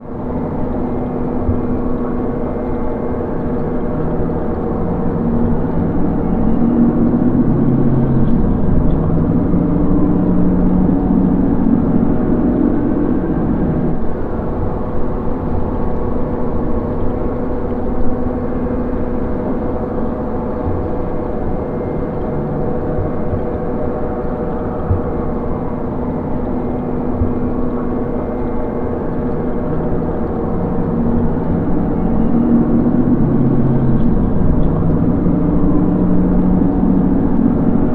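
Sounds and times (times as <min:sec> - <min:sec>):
dark ambient drone: 0:00.0 - 0:37.9.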